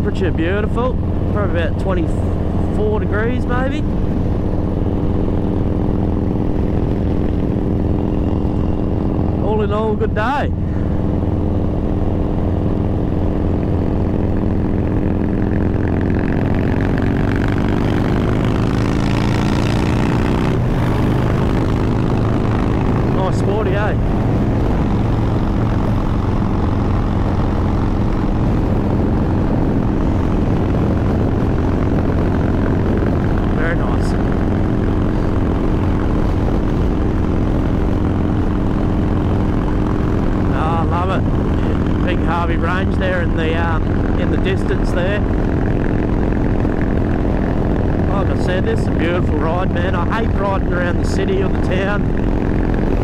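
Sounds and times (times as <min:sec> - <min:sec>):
motorcycle engine running: 0:00.0 - 0:53.0
road noise: 0:00.0 - 0:53.0.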